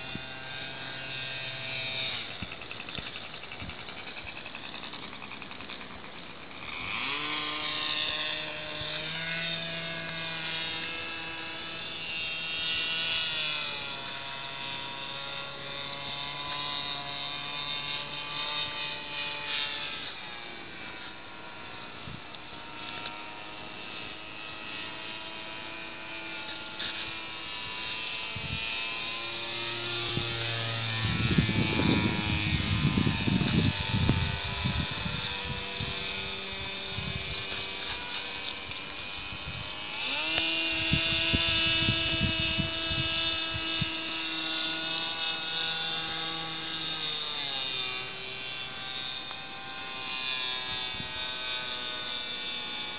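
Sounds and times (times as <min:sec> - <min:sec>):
model aircraft motor and propeller: 0:00.0 - 0:52.9.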